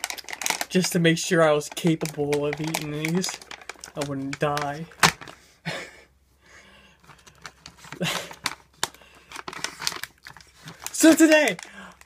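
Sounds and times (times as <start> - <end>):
plastic bag rustling: 0.0 - 5.5, 7.0 - 12.0.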